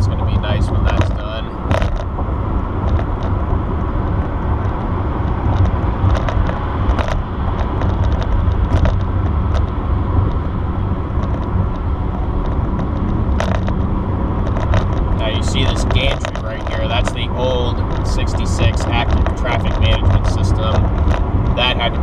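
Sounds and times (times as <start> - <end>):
car interior road and engine rumble: 0.0 - 22.0.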